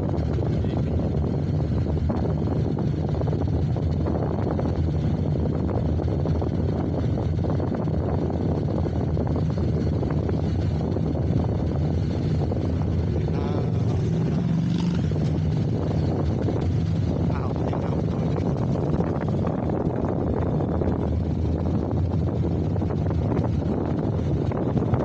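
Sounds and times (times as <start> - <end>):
motorcycle engine running: 0.0 - 25.0
wind noise on microphone: 0.0 - 25.0.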